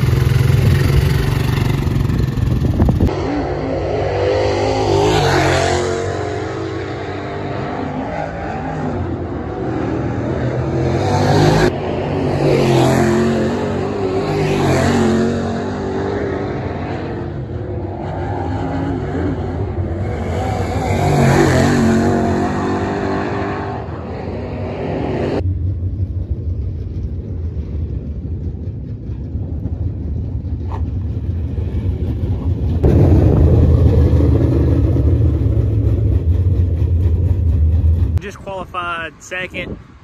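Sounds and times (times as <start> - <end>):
race car engines on track: 0.0 - 40.0.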